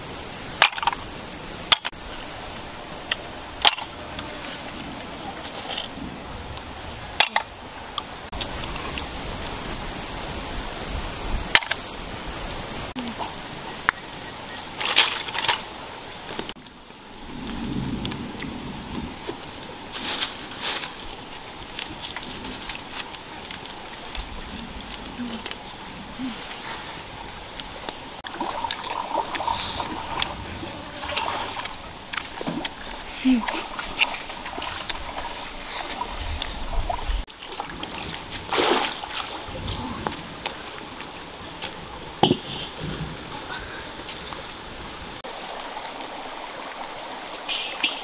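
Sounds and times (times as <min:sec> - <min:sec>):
stream water running: 0:00.0 - 0:48.0.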